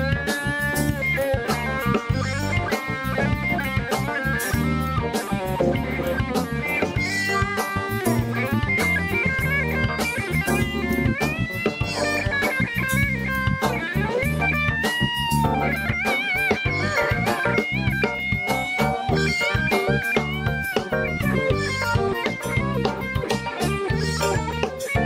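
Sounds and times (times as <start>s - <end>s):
drums: 0.0s - 25.0s
electric guitar lead with bent notes: 0.0s - 25.0s.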